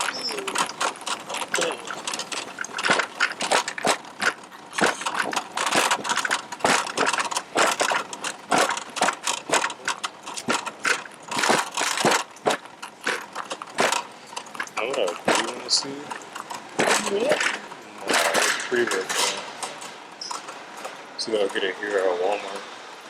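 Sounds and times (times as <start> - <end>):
clattering and rattling: 0.0 - 21.8.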